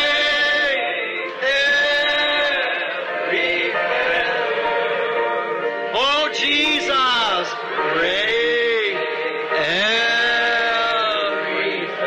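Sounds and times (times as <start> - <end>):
backing music: 0.0 - 12.0
voices singing gospel song: 0.0 - 12.0.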